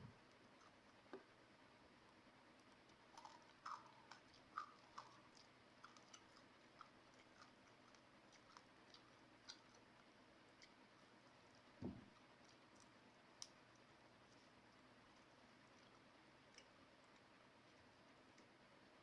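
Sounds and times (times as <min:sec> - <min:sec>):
person chewing food: 0:00.2 - 0:18.7.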